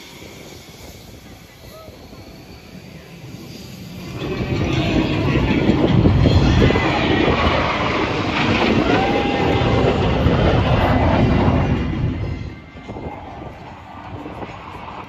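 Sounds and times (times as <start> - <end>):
aircraft engine rumbling: 0.0 - 15.0.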